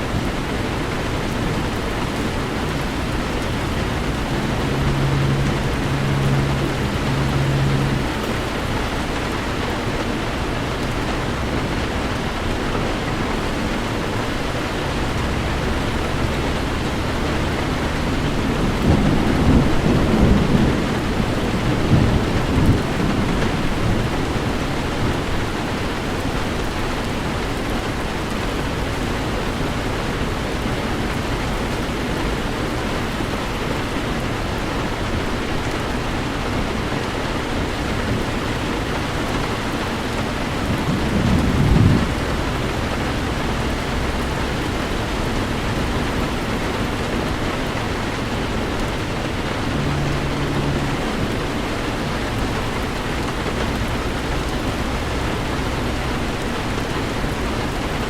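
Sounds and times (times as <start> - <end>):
heavy rain on a car: 0.0 - 58.0
thunder rumble: 0.0 - 58.0.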